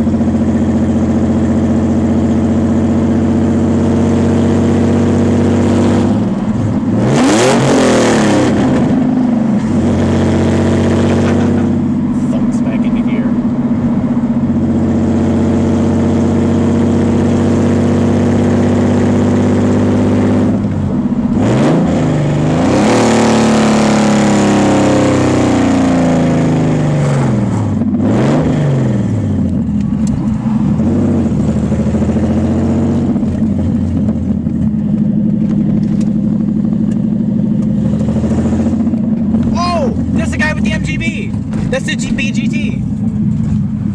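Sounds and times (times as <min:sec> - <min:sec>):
car engine running and revving: 0:00.0 - 0:43.9.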